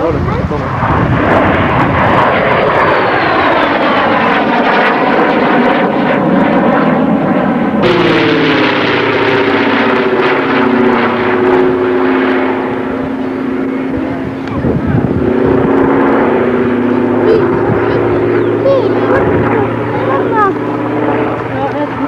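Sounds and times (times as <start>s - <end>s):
jet aircraft passing overhead: 0.0s - 22.0s
piston aircraft engines humming: 0.0s - 22.0s.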